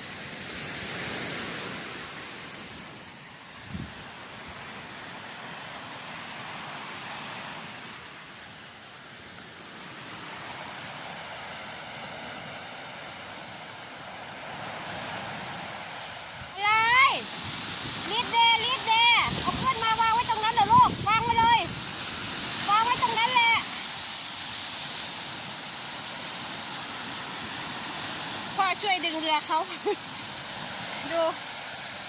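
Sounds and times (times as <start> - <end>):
sea waves rushing onto shore: 0.0 - 32.0.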